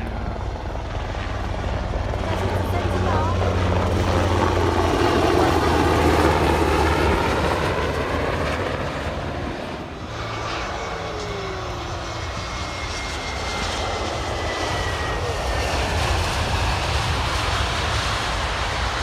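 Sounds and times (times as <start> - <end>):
airplane engines roaring: 0.0 - 19.0.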